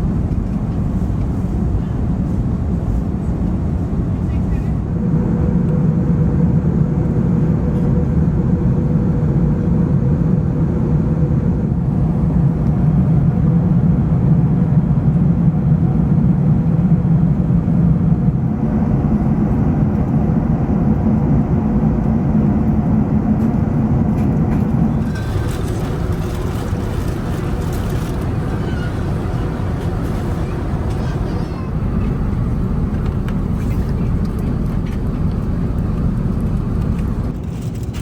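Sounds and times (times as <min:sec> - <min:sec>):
airplane cabin noise: 0:00.0 - 0:38.0.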